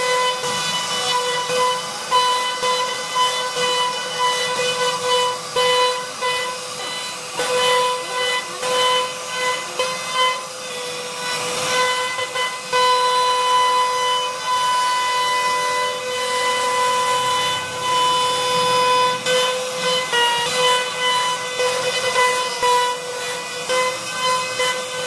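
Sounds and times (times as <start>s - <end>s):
rasping hiss of wood cutting: 0.0s - 25.0s
router spindle high whine: 0.0s - 25.0s.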